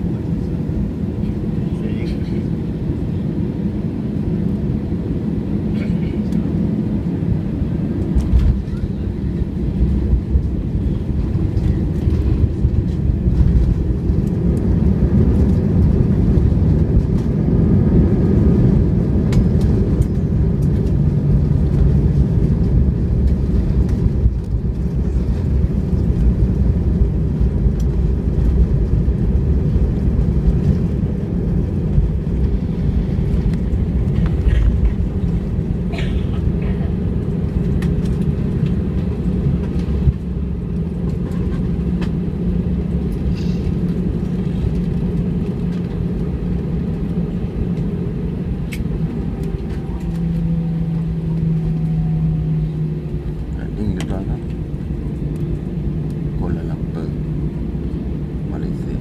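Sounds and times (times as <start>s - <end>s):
airplane cabin low rumble: 0.0s - 59.0s.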